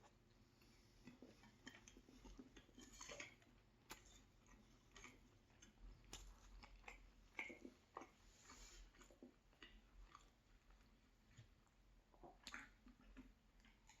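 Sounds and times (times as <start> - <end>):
chewing food: 0.0 - 14.0.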